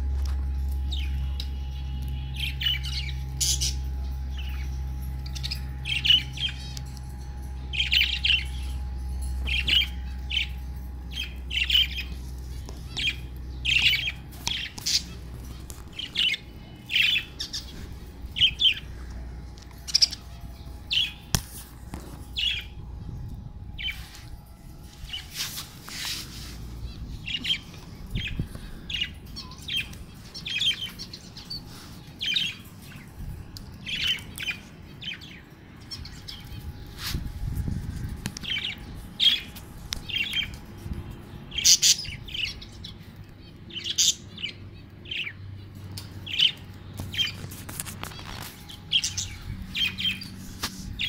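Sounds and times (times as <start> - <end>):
low hum: 0.0 - 51.0
budgerigars chirping and squawking: 0.9 - 6.9, 7.5 - 22.7, 26.8 - 51.0.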